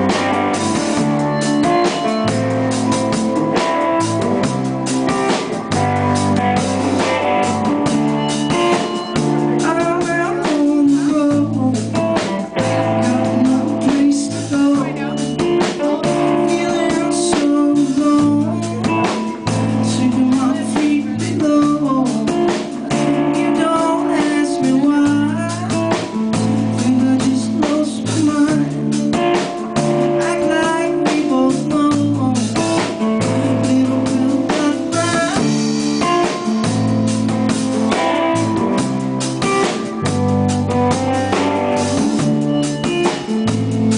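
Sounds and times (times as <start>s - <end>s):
drum kit: 0.0s - 43.9s
electric bass guitar: 0.0s - 43.9s
electric guitar: 0.0s - 43.9s.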